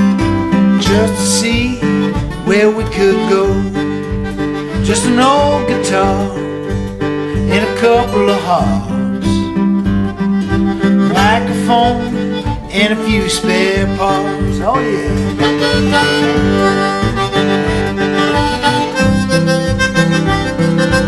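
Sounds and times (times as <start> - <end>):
acoustic guitar: 0.0 - 21.0
harmonica playing: 0.0 - 21.0.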